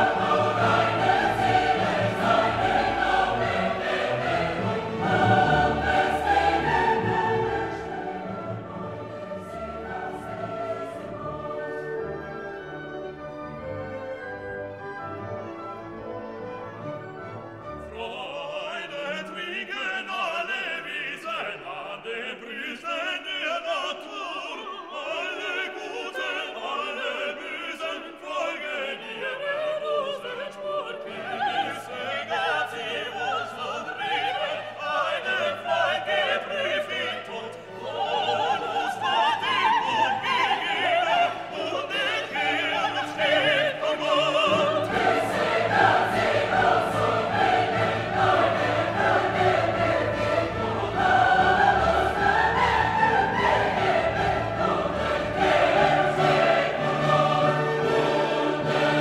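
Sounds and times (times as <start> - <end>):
choir singing: 0.0 - 59.0
classical orchestral music: 0.0 - 59.0.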